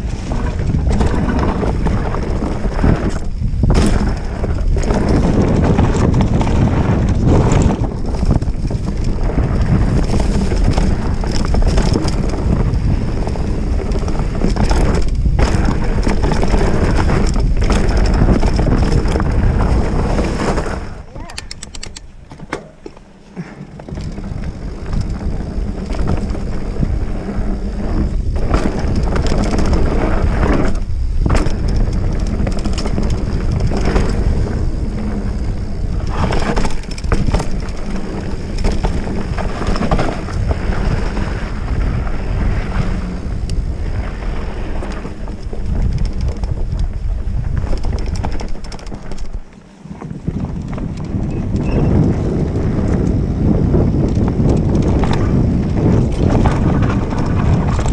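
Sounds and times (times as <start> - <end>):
tyre rumble on dirt: 0.0 - 21.1, 22.1 - 57.9
bike knocks and rattles: 0.0 - 57.9
wind buffeting microphone: 0.0 - 57.9.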